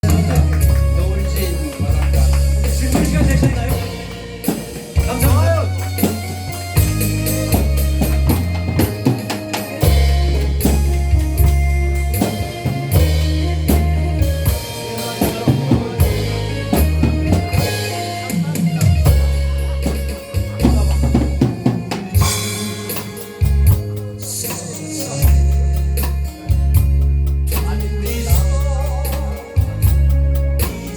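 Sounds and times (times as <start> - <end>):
drum kit beat: 0.0 - 30.9
held bass line: 0.0 - 30.9.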